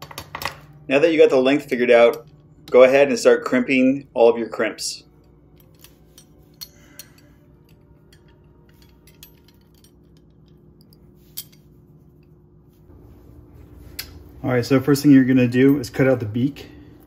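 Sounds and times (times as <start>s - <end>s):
steady low hum: 0.4s - 17.0s.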